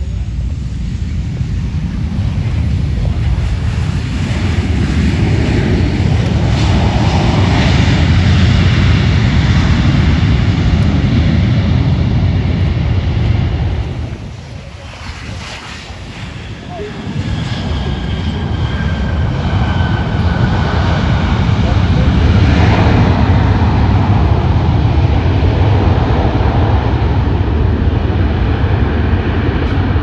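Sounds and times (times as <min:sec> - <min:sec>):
airplane engine passing: 0:00.0 - 0:30.0.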